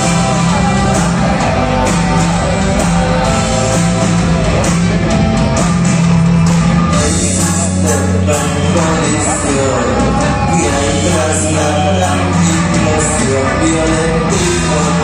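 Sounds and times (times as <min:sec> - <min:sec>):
drum and cymbal hits: 0:00.0 - 0:15.0
held low bass line: 0:00.0 - 0:15.0
live rock band playing: 0:00.0 - 0:15.0.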